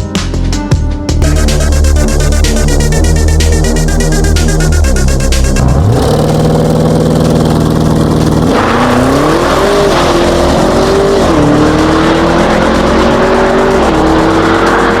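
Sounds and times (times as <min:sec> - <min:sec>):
car engine accelerating: 0:01.2 - 0:15.0.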